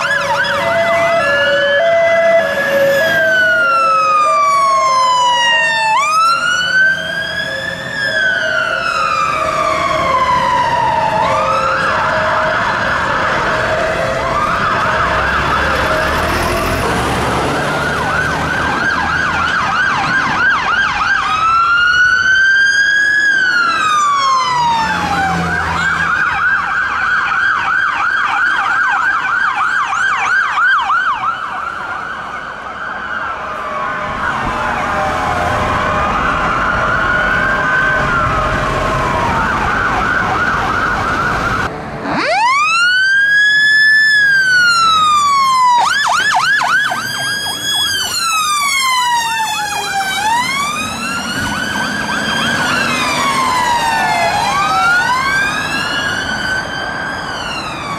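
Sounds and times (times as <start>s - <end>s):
fire engine sirens wailing and yelping: 0.0s - 57.9s.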